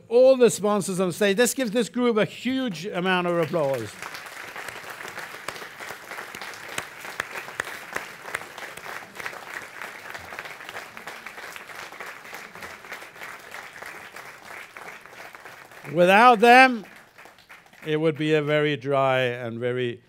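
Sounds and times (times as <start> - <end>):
crowd applauding: 2.5 - 18.8.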